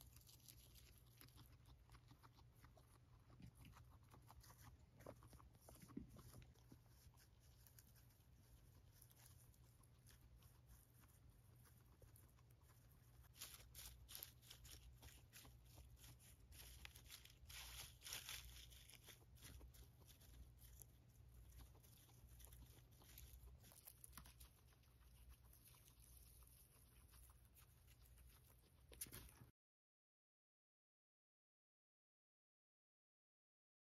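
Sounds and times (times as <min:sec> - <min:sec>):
guinea pigs chewing hay: 0:00.0 - 0:29.5.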